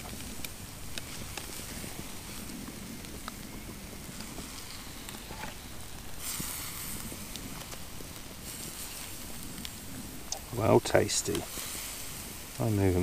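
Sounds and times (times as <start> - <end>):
campfire crackling: 0.0 - 13.0
chicken sizzling: 0.0 - 13.0.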